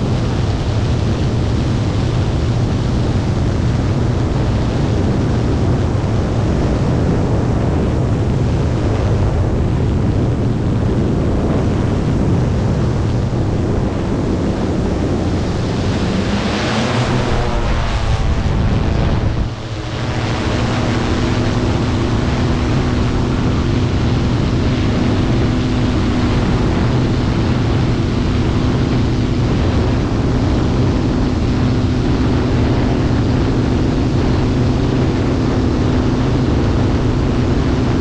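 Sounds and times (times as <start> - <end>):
drone propellers humming: 0.0 - 38.0.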